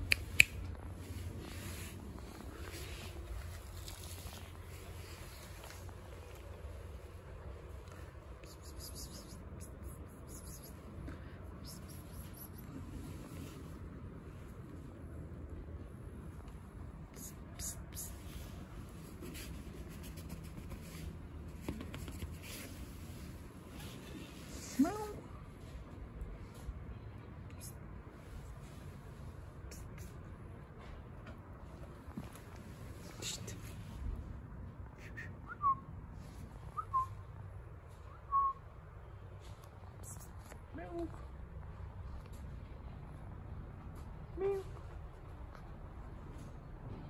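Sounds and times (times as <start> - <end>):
low steady rumble: 0.0 - 47.0.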